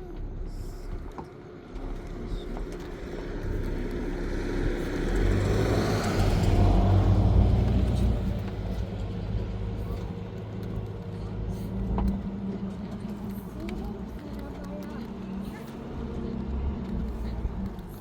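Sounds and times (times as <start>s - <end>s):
motor vehicle engine running: 0.0s - 18.0s.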